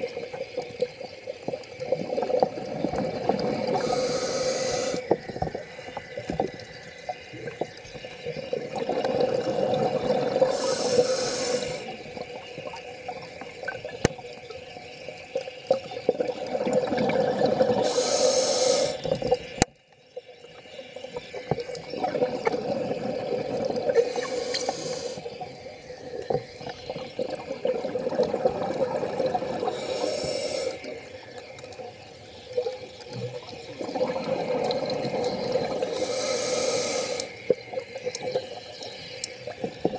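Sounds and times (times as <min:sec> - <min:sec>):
exhaled bubbles hissing: 0:00.0 - 0:19.6, 0:20.3 - 0:39.9.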